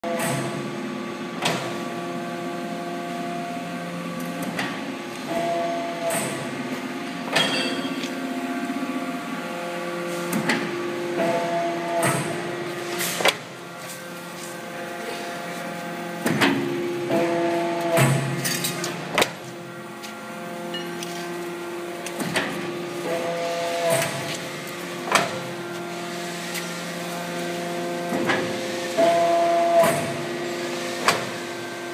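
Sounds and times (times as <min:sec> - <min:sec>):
hydraulic machine hum: 0:00.0 - 0:31.9.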